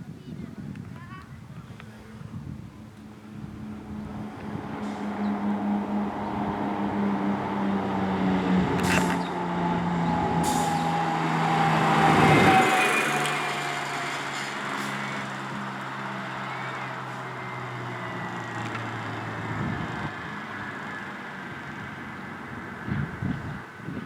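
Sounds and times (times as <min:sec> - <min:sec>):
road noise: 0:00.0 - 0:24.0
fire engine driving past: 0:02.8 - 0:24.0.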